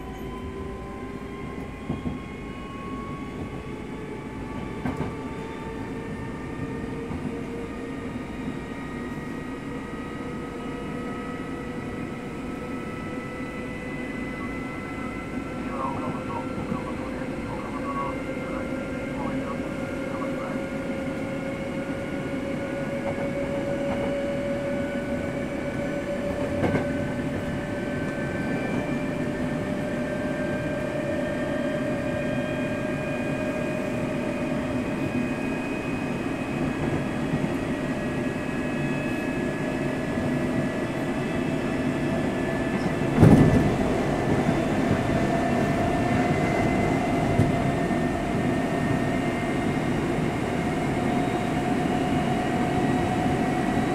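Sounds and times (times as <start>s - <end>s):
train rolling noise: 0.0s - 53.9s.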